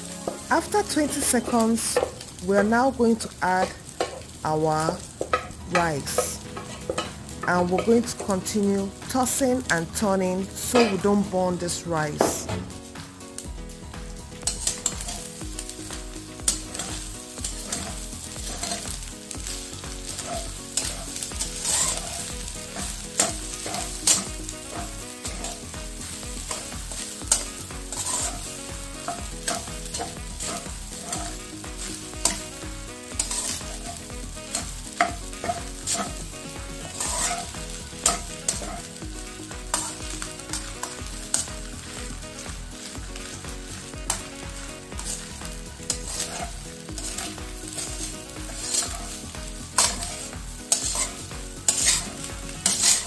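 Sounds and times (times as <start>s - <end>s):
metal spatula scraping a wok: 0.0s - 2.4s, 3.6s - 4.4s, 5.2s - 11.2s, 14.4s - 43.4s, 44.0s - 53.0s
rice sizzling in a wok: 0.0s - 53.0s.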